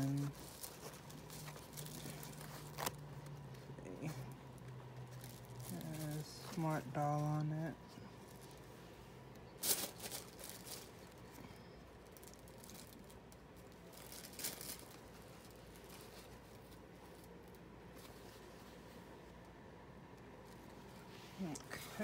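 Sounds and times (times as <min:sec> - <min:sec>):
packaging rustling and crinkling: 0:00.0 - 0:08.7, 0:09.4 - 0:19.3
faint room hum: 0:00.0 - 0:22.0.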